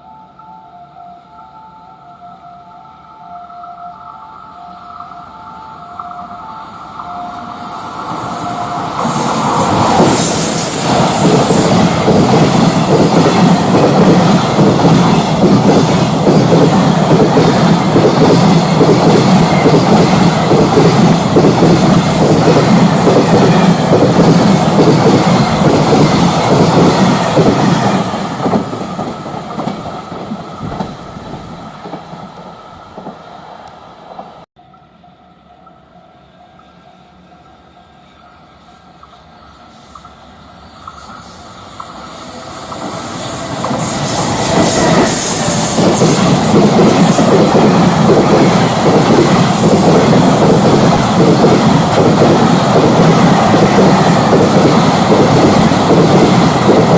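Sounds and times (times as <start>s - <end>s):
freight train passing: 0.0s - 56.9s.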